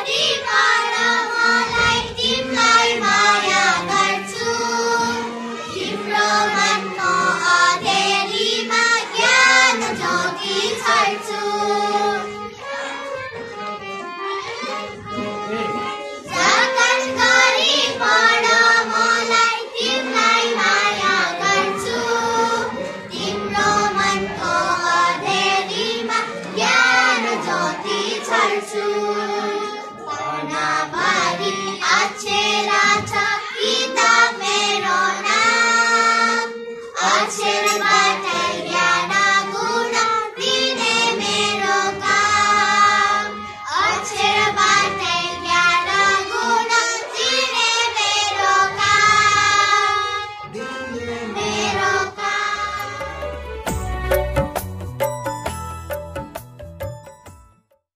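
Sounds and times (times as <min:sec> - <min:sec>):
girls singing together: 0:00.0 - 0:53.1.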